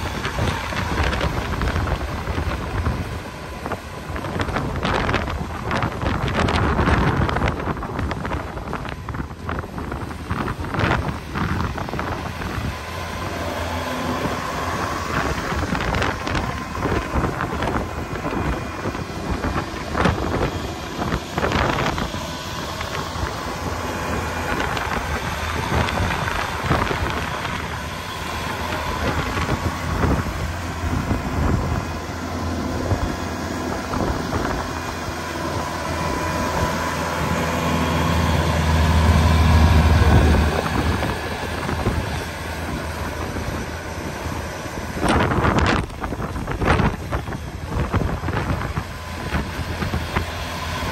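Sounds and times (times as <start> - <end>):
tractor engine running: 0.0 - 50.9
wind buffeting microphone: 0.0 - 50.9.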